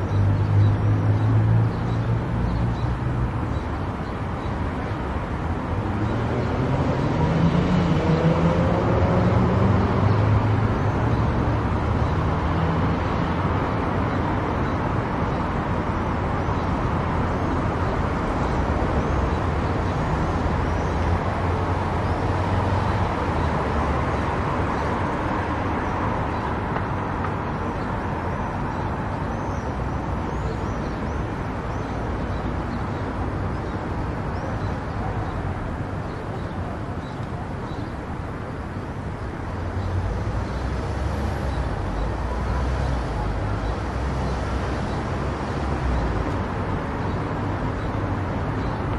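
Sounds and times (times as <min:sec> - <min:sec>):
tyre and road noise: 0:00.0 - 0:48.9.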